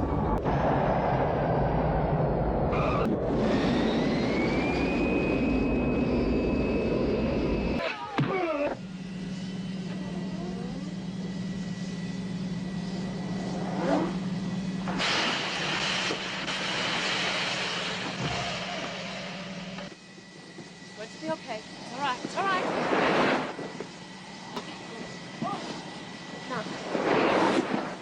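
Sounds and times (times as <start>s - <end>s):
jet engine whine: 0.0s - 28.0s
steady engine hum: 0.0s - 28.0s.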